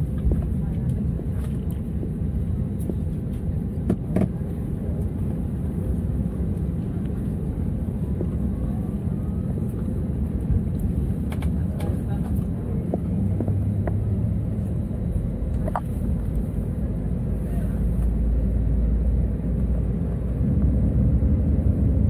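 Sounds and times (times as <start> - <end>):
jet engines rumbling while taxiing: 0.0 - 22.0
wheels rolling on taxiway: 0.0 - 22.0.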